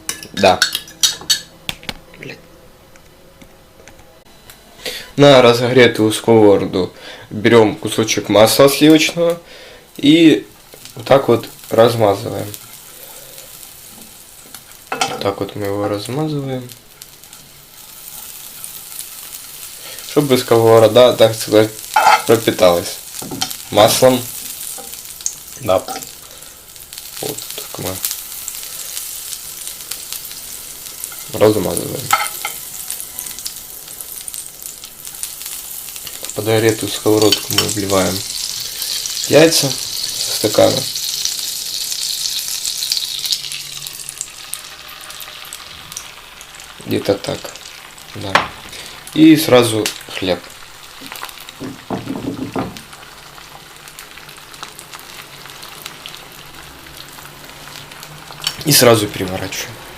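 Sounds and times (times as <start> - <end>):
butter sizzling in a frying pan: 7.6 - 59.9.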